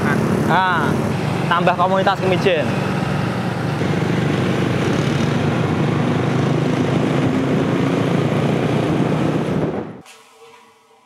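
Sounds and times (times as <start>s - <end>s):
motorcycles and cars passing: 0.0s - 10.0s.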